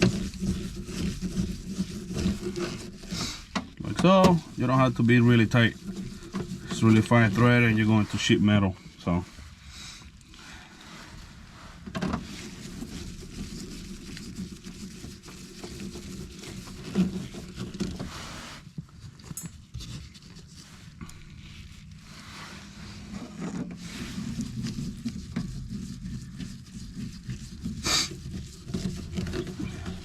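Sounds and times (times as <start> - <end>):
rubbing and rustling of handling: 0.0 - 30.0.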